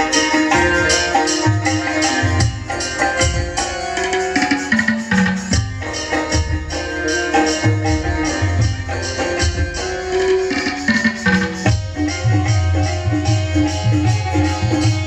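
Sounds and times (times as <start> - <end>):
hand drum beating fast: 0.0 - 15.0
held melody line: 0.0 - 15.0
jingling percussion: 0.0 - 15.0.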